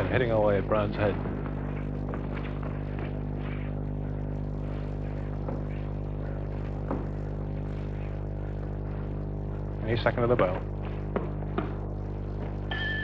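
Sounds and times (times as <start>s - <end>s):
buzzy electrical mains hum: 0.0s - 13.0s.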